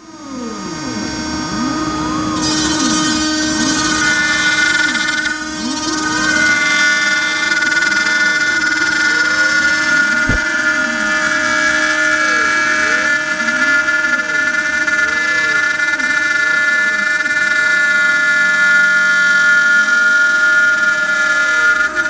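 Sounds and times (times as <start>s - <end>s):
axis motors whirring: 0.0s - 22.0s
router spindle whining: 0.0s - 22.0s.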